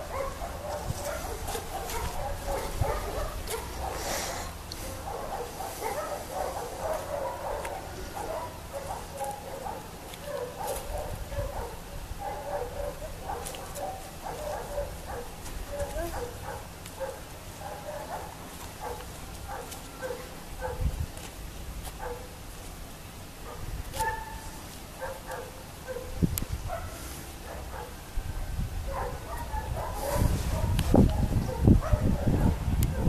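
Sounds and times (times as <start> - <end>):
dog barking and yelping: 0.0 - 4.1, 4.8 - 20.9, 22.0 - 22.3, 23.5 - 28.0, 28.9 - 33.0.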